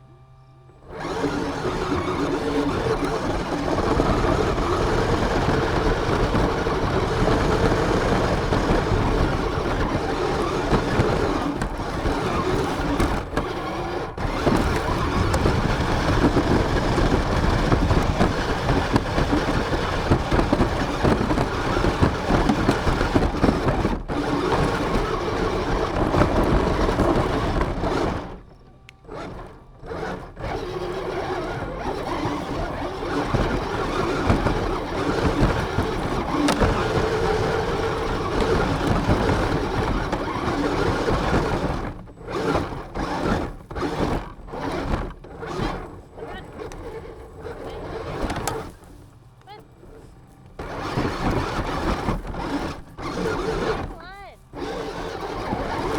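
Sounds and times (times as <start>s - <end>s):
rc car motor rushing: 0.8s - 55.9s.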